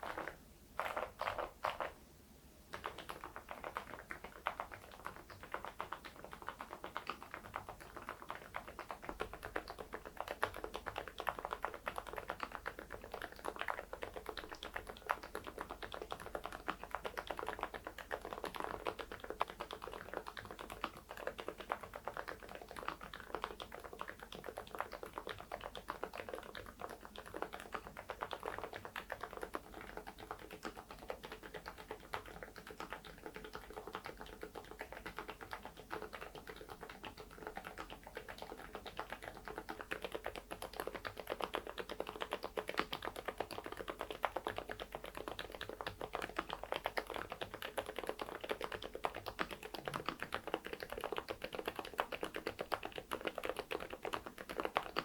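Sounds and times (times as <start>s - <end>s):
fast mechanical keyboard typing: 2.7s - 55.0s.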